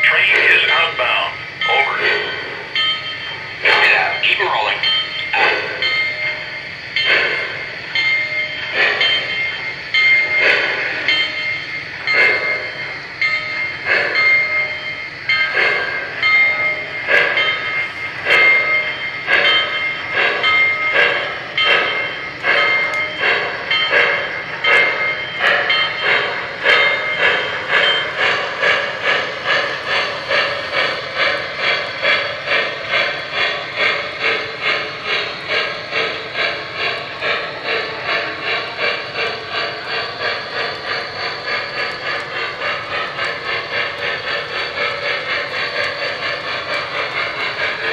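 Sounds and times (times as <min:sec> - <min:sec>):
steam locomotive chuffing: 0:00.0 - 0:47.9
train rolling on track: 0:00.0 - 0:47.9.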